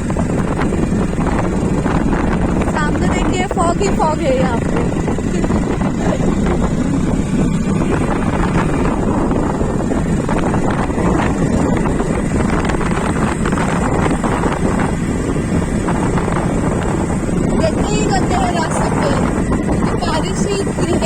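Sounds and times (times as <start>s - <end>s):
vehicle driving on wet road: 0.0s - 21.0s
wind buffeting microphone: 0.0s - 21.0s.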